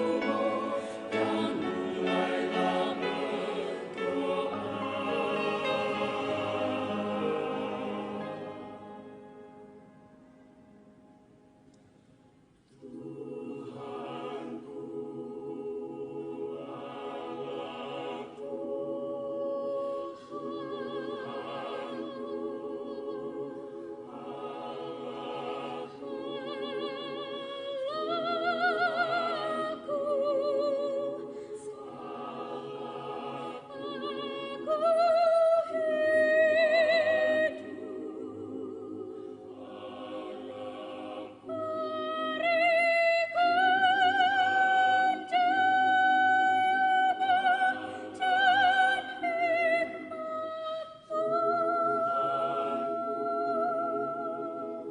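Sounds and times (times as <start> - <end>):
choir singing: 0.0 - 11.0, 12.7 - 54.9.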